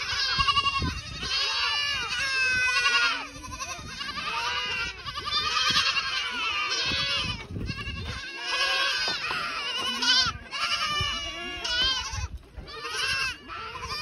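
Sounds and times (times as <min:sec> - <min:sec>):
goats bleating: 0:00.0 - 0:14.0.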